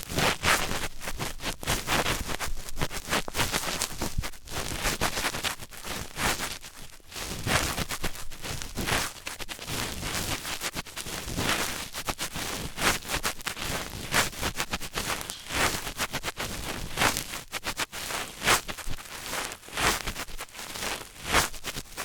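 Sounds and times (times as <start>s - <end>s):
crackling against a microphone: 0.0s - 22.0s.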